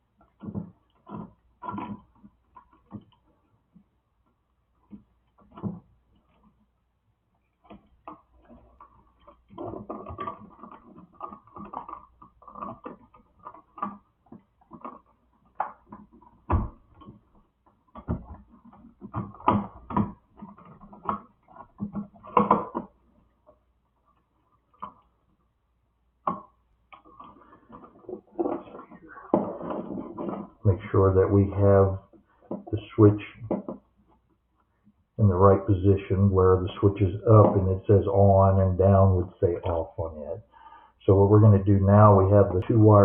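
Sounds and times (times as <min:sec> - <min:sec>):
wire connectors clicking and rustling: 0:00.0 - 0:06.7, 0:07.3 - 0:35.2.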